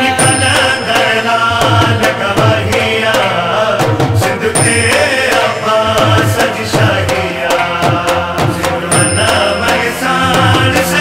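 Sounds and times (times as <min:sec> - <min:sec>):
men singing devotional song: 0:00.0 - 0:11.0
steady percussion beat: 0:00.0 - 0:11.0.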